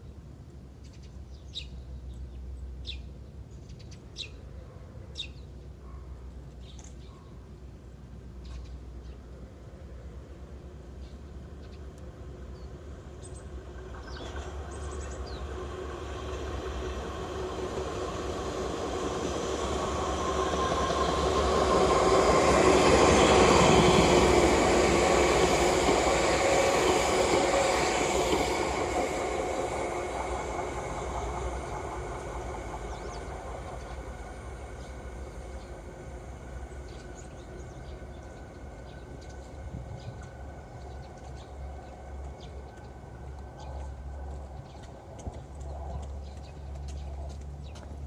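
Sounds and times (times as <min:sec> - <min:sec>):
train passing by: 0:00.0 - 0:48.0.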